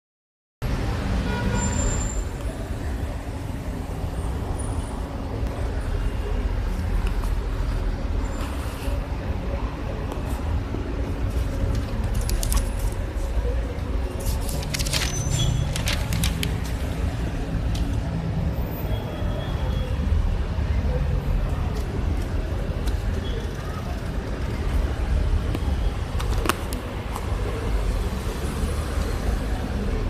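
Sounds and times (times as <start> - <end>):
low rumble of road vehicles: 0.6 - 30.0.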